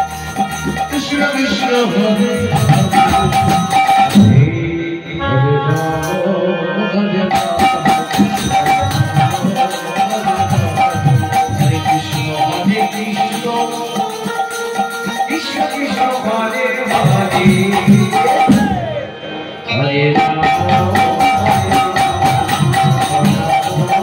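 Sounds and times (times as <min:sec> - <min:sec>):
drums: 0:00.0 - 0:04.6, 0:07.3 - 0:19.1, 0:20.0 - 0:24.0
jingling percussion: 0:00.0 - 0:04.6, 0:07.3 - 0:19.1, 0:20.1 - 0:24.0
steady melody line: 0:00.0 - 0:24.0
sustained held notes: 0:00.0 - 0:24.0.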